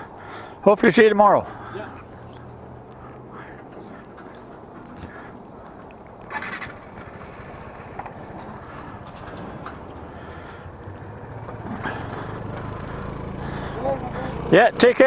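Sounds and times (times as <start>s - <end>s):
scooter engines idling: 0.0s - 15.0s.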